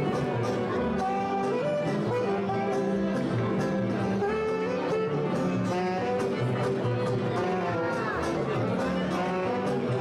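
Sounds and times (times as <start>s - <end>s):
jazz tune with horn melody: 0.0s - 10.0s.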